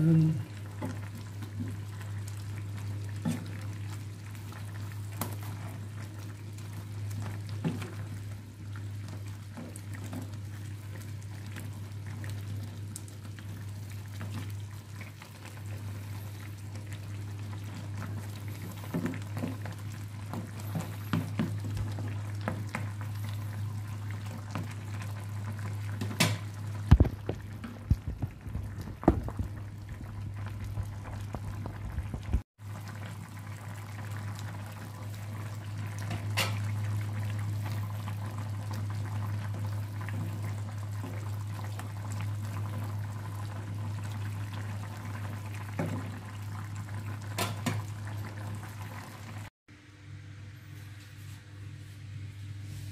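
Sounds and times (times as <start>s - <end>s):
stew simmering in a pan: 0.0s - 49.5s.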